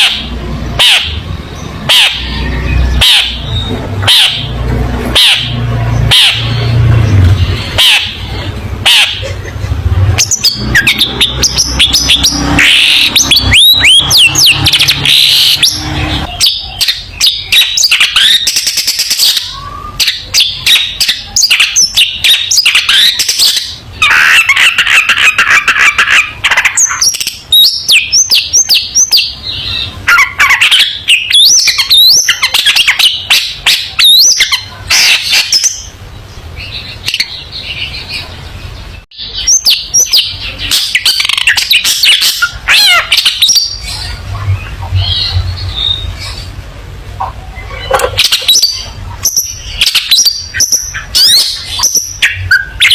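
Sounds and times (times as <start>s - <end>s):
shrike singing: 0.0s - 52.9s.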